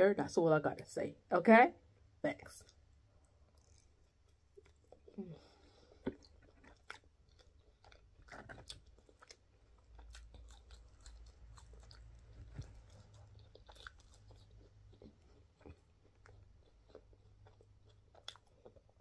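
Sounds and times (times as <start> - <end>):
mouth chewing food: 1.9 - 19.0.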